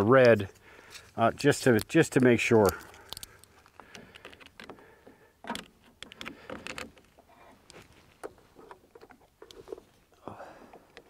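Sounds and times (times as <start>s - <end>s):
cables rattling: 0.3s - 11.0s.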